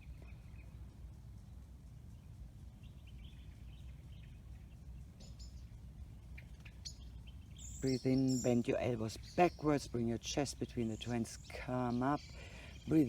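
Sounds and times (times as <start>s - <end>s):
faint bird chirps: 0.0s - 13.0s
low steady hum: 0.0s - 13.0s.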